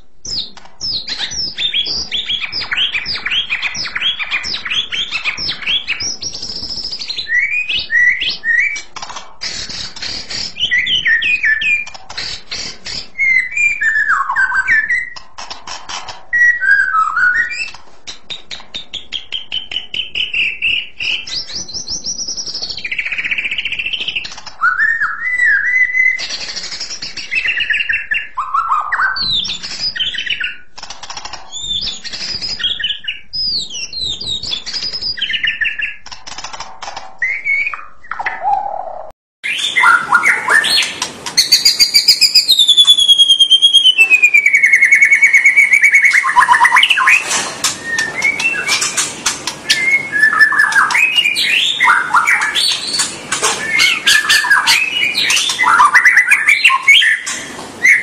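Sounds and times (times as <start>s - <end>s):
bird singing whistled song: 0.2s - 8.9s, 9.7s - 15.2s, 16.3s - 30.6s, 31.5s - 36.0s, 37.2s - 58.0s
rapid rattling bird notes: 0.3s - 28.3s, 39.5s - 58.0s.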